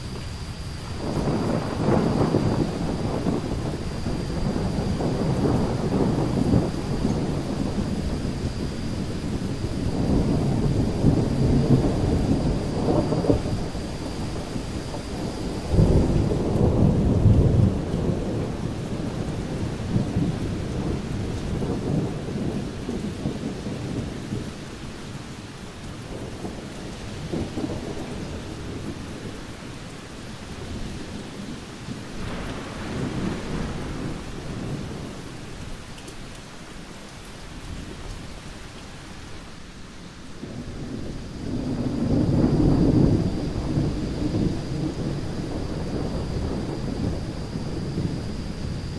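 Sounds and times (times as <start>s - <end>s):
rolling thunder: 0.0s - 29.9s, 30.5s - 35.9s, 40.3s - 48.9s
rain hiss: 0.0s - 48.9s.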